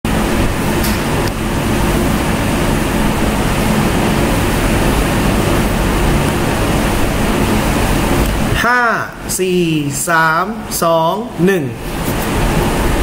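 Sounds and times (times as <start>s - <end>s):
steady rushing noise: 0.1s - 13.0s.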